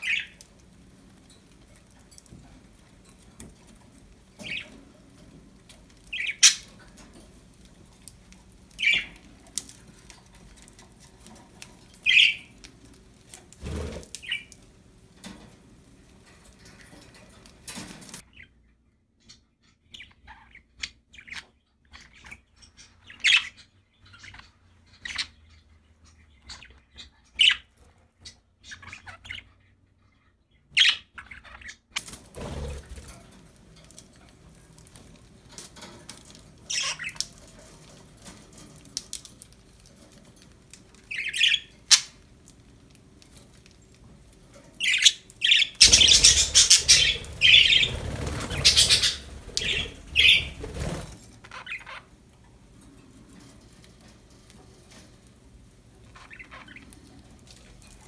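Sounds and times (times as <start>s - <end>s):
budgerigars chirping and squawking: 0.0s - 5.2s, 5.9s - 14.7s, 16.7s - 33.3s, 36.5s - 39.2s, 39.8s - 52.6s, 56.0s - 58.0s.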